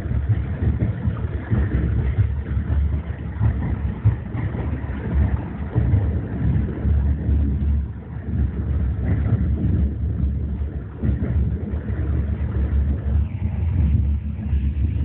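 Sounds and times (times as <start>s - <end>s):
train rumbling inside car: 0.0s - 15.0s.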